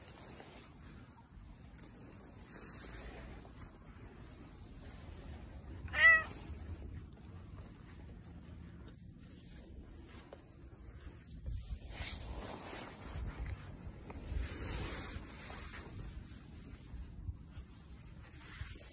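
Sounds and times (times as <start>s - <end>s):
rustling against microphone: 0.0s - 18.9s.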